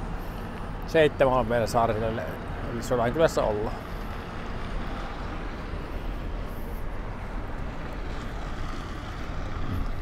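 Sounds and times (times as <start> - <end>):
tyre and road noise: 0.0 - 10.0.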